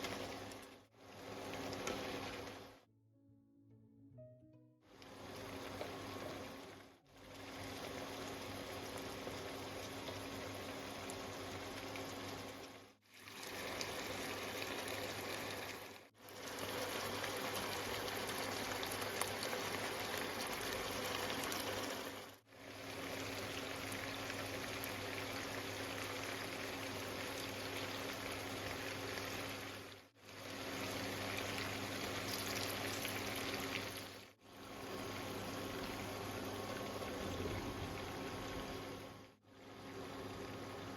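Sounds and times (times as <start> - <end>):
liquid bubbling and simmering: 0.0 - 2.9, 4.8 - 40.9.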